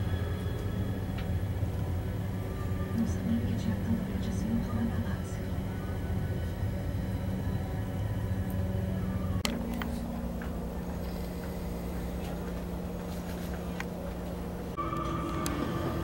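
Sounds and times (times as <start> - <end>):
train coach rumble and hum: 0.0 - 16.0.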